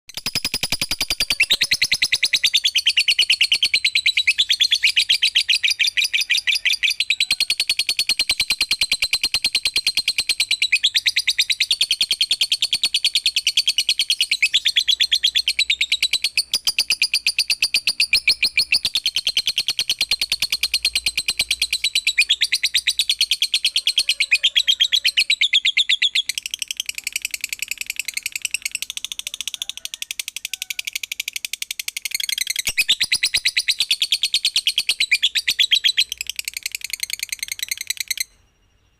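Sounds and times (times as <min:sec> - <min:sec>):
lovebird chattering: 0:00.1 - 0:38.4.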